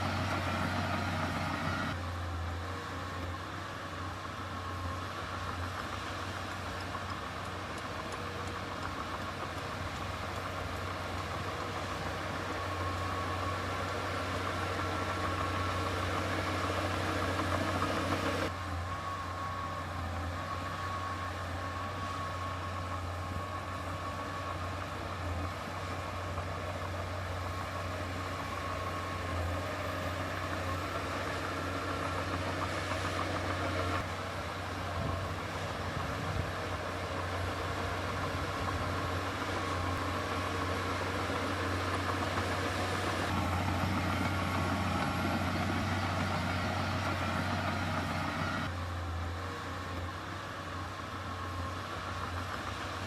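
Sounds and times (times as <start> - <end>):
heavy diesel machinery engine hum: 0.0 - 53.0.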